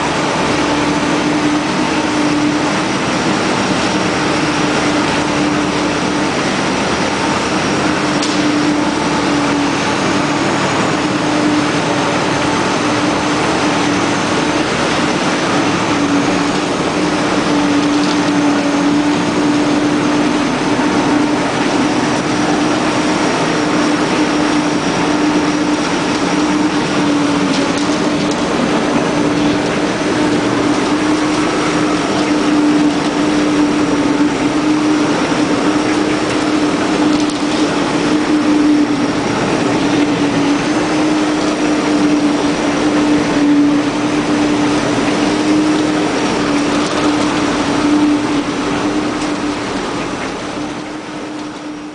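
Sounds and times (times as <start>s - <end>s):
mixer wagon tumbling silage: 0.0s - 51.9s
tractor diesel engine running: 0.0s - 51.9s.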